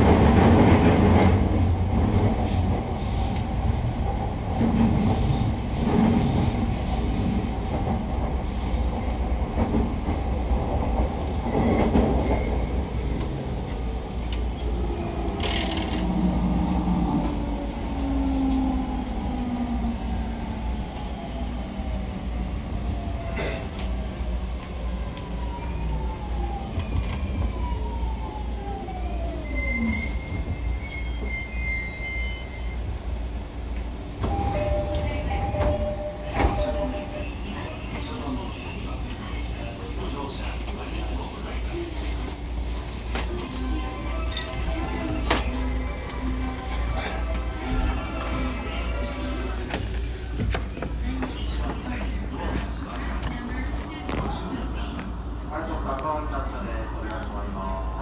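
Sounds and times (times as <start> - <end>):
train wheels rumbling on rail: 0.0 - 56.5.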